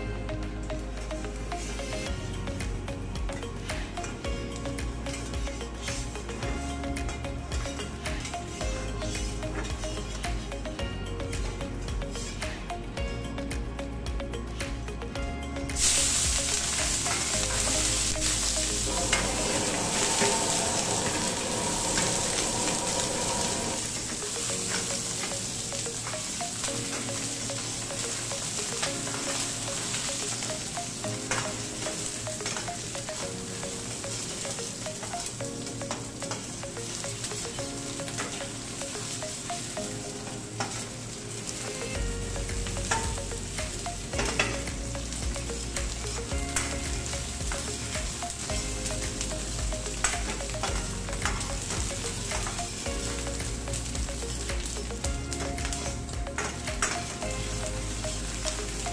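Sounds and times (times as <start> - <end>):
soft background music: 0.0 - 58.9
oil sizzling in a skillet: 0.3 - 58.9.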